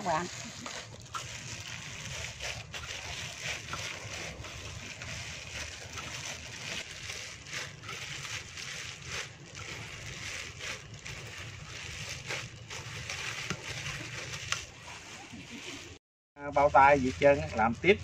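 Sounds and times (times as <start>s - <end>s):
hands squishing wet dough: 0.0s - 16.0s.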